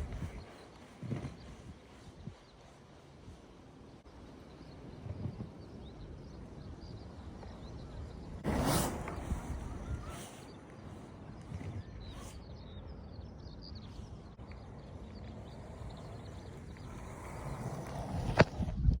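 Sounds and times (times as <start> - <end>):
skateboard wheels rolling: 0.0 - 19.0
wind buffeting microphone: 0.0 - 19.0.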